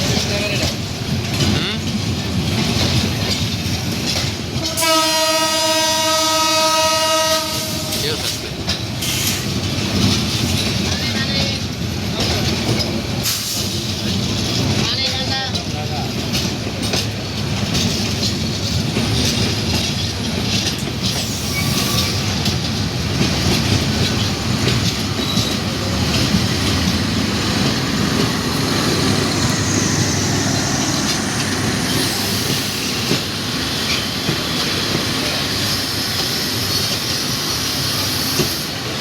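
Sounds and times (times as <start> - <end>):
wheels clattering over rail joints: 0.0 - 37.2
passenger train rumbling: 0.0 - 39.0.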